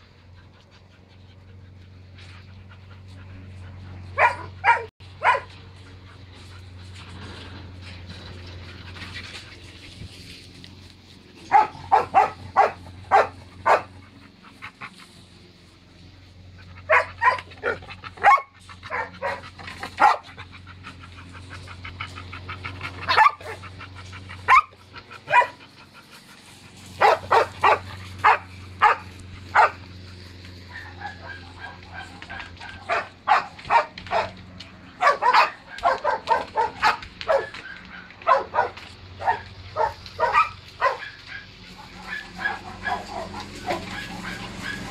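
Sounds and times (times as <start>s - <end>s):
dogs barking: 0.0s - 7.2s, 11.3s - 15.5s, 16.4s - 44.9s.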